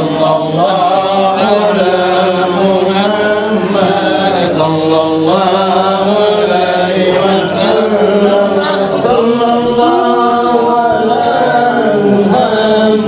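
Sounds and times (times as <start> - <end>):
group chanting devotional praise: 0.0 - 13.0.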